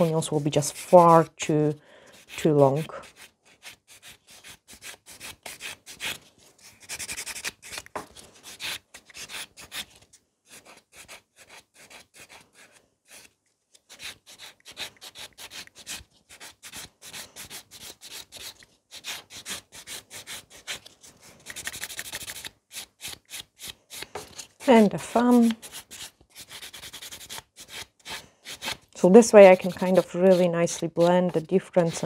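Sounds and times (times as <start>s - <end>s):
nail buffer scratching on nails: 0.0s - 1.4s, 2.2s - 9.9s, 10.5s - 20.8s, 21.4s - 32.0s.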